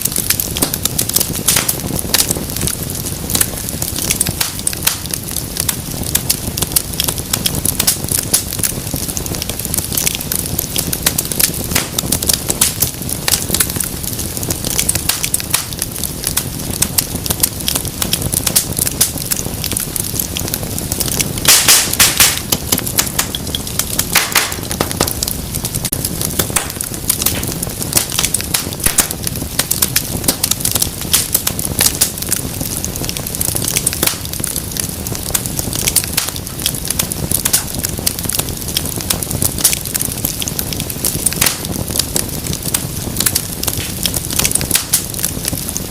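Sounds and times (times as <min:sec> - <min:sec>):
low rush of flame: 0:00.0 - 0:45.9
wood fire crackling and popping: 0:00.0 - 0:45.9.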